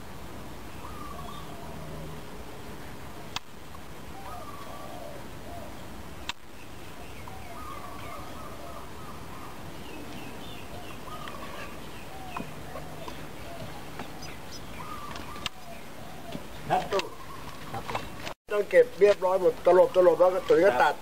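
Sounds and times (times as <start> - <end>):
birds chirping: 0.0 - 3.4, 4.1 - 21.0.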